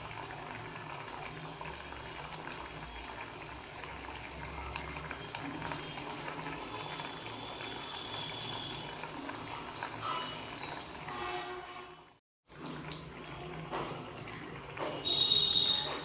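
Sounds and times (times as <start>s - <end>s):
liquid simmering in a pot: 0.0s - 11.9s, 12.5s - 16.0s.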